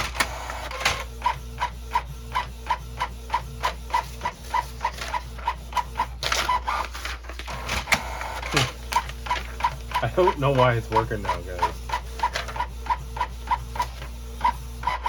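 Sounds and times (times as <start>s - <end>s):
printer mechanism chirps: 0.0s - 15.0s
printer whir: 0.0s - 15.0s.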